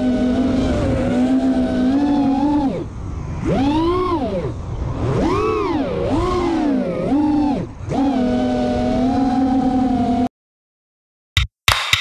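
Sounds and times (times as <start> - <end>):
drone motors whining: 0.0 - 10.3.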